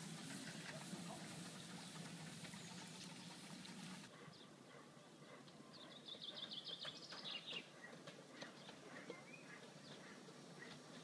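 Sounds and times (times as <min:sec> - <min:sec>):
faint birdsong trill: 0:01.4 - 0:11.0.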